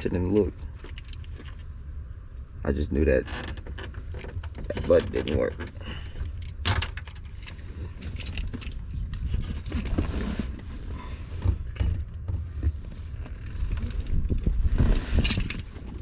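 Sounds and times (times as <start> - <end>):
steady low rumble: 0.0 - 16.0
wires scraping and rattling: 0.0 - 16.0.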